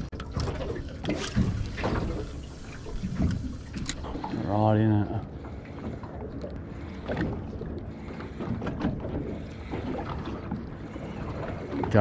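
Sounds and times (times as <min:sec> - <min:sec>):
water lapping against hull: 0:00.0 - 0:12.0.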